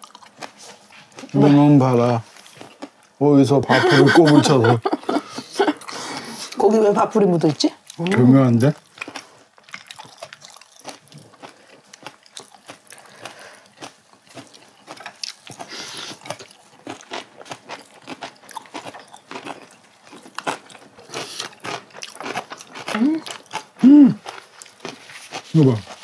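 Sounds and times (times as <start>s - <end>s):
crunching and wet chewing: 0.0s - 3.2s, 7.4s - 26.0s.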